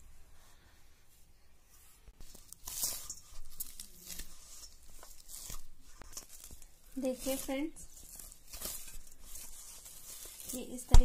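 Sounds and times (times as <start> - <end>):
hand kneading dough: 0.0 - 11.0.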